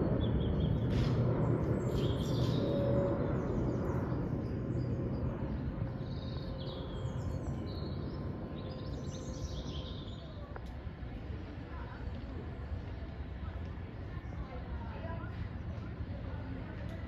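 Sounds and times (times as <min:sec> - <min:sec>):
aircraft passing overhead: 0:00.0 - 0:17.0
small birds chirping: 0:00.0 - 0:17.0.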